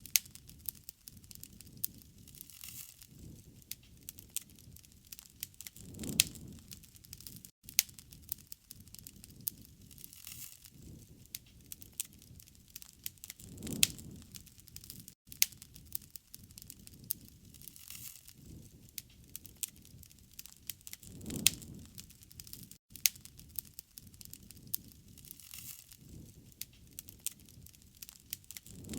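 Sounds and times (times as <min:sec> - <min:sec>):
campfire crackling and popping: 0:00.0 - 0:28.9
low rumble of flames: 0:00.0 - 0:28.9
low rush of burning fire: 0:00.0 - 0:28.9.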